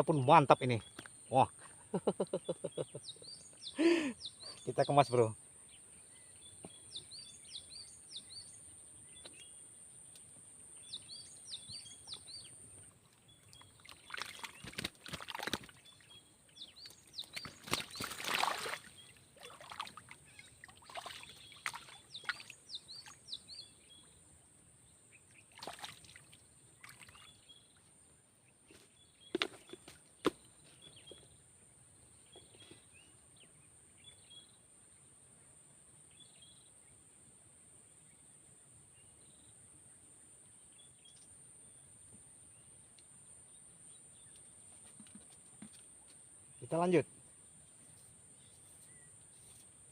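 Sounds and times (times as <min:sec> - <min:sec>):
small birds chirping: 0:00.0 - 0:37.0, 0:39.0 - 0:49.9.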